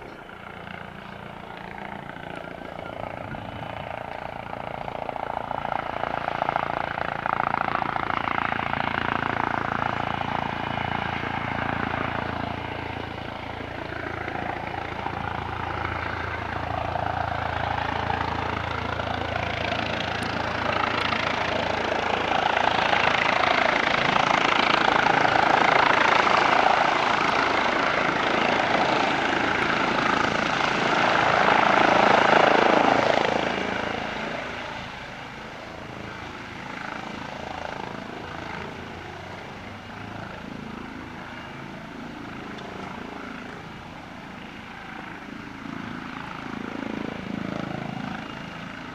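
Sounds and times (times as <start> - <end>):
helicopter rotor and turbine: 0.0 - 48.9.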